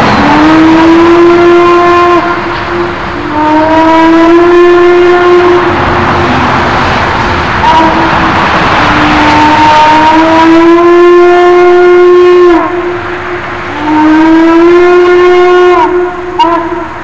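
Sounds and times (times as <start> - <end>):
locomotive air horn blasts: 0.0 - 6.8, 7.6 - 17.0.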